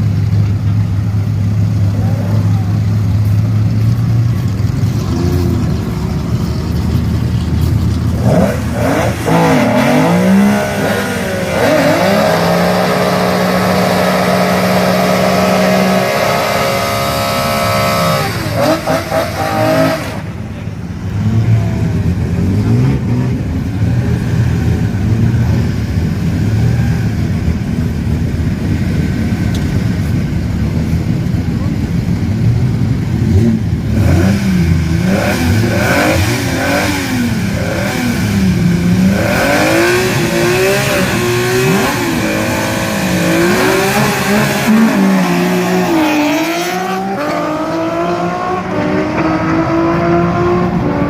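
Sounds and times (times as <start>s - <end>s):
drag racing car engines revving: 0.0s - 51.0s.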